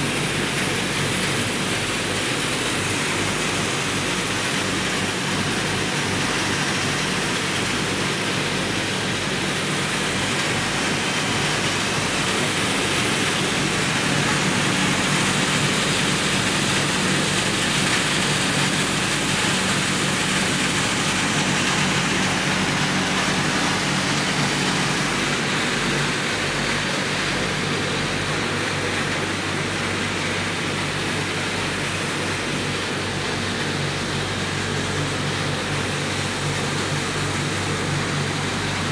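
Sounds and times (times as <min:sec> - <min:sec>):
low steady hum: 0:00.0 - 0:38.9
rushing machinery noise: 0:00.0 - 0:38.9.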